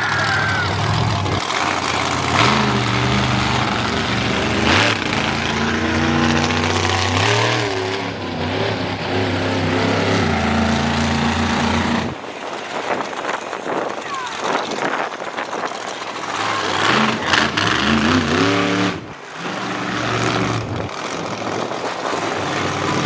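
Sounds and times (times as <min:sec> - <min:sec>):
loud engine bursts: 0:00.0 - 0:12.2, 0:16.0 - 0:23.0
truck engine revving: 0:00.0 - 0:13.8, 0:14.4 - 0:23.0.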